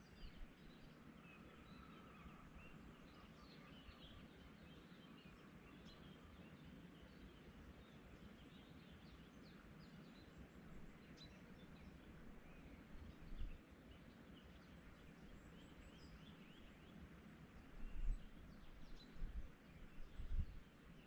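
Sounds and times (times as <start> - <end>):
small songbirds chirping: 0.0 - 21.0.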